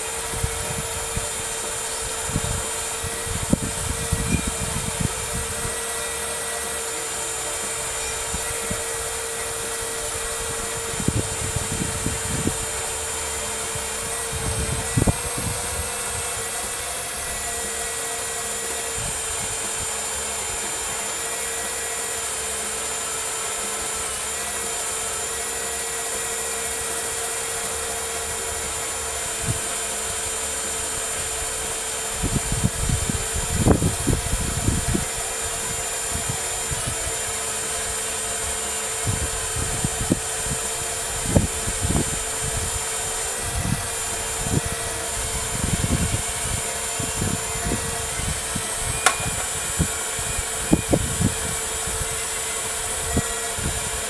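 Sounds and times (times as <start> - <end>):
hydraulic pump humming: 0.0 - 54.0.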